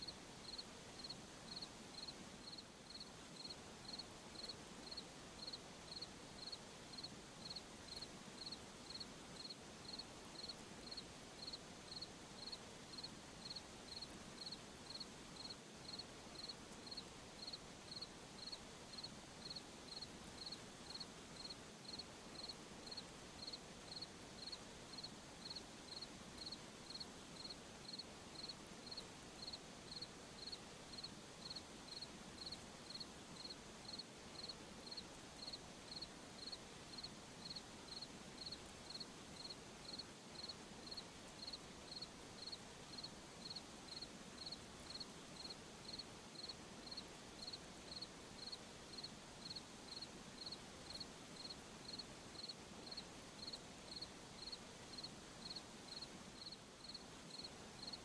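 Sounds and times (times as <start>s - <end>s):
cricket chirping: 0.0s - 58.0s
faint background hiss: 0.0s - 58.0s.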